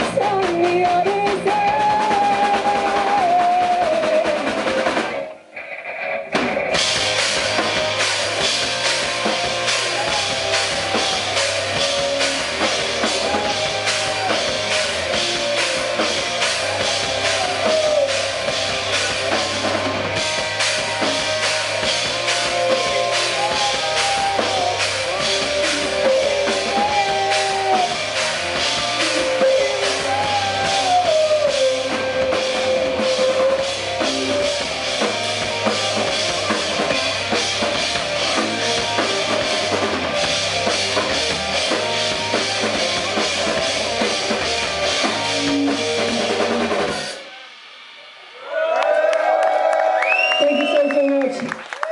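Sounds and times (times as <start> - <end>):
drum kit beating: 0.0 - 5.5, 6.2 - 50.0
guitar: 0.0 - 51.6.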